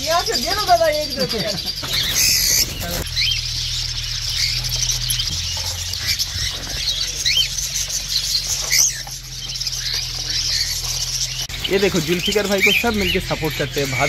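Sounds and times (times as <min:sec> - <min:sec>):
flock of birds chattering: 0:00.0 - 0:14.0
wing flapping: 0:00.1 - 0:14.0.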